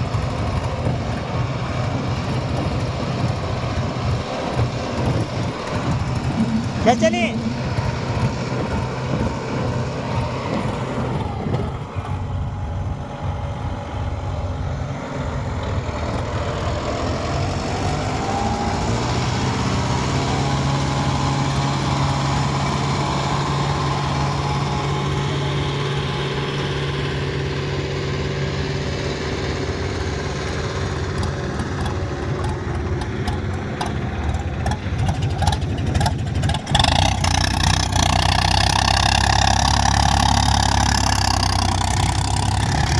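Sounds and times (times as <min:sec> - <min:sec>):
diesel tractor engines running: 0:00.0 - 0:42.9.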